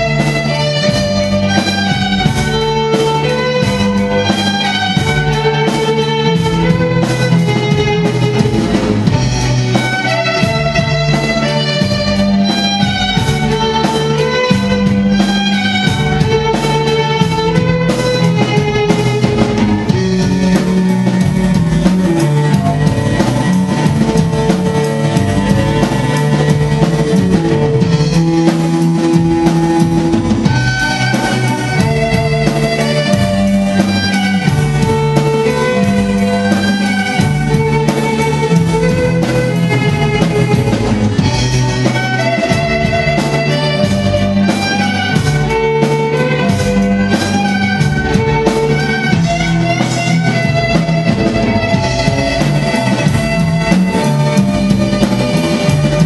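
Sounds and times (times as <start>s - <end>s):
bowed strings playing: 0.0s - 56.0s
drum kit beat: 0.0s - 56.0s.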